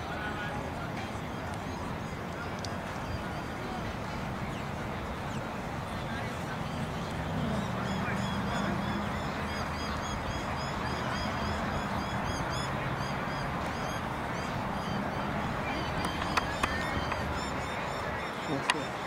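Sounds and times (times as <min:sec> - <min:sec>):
low background murmur: 0:00.0 - 0:19.0
birds chirping: 0:00.2 - 0:19.0.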